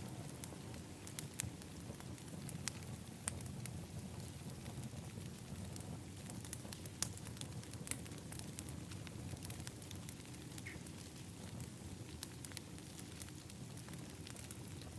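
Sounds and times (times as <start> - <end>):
fire crackling and popping: 0.0 - 14.9
wood fire rumbling: 0.0 - 14.9.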